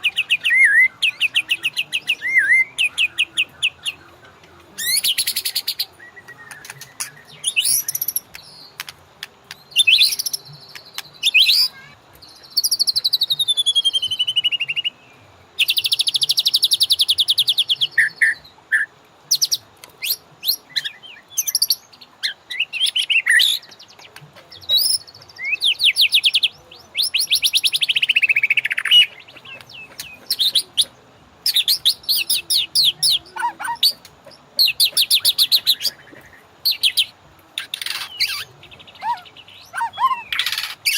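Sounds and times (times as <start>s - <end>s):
songbird singing trills and whistles: 0.0s - 40.9s.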